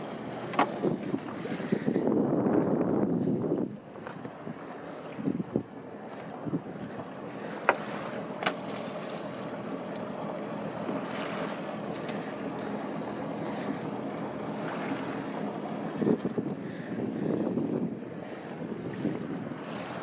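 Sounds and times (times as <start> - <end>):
water noise: 0.0 - 20.0
wind: 0.0 - 20.0.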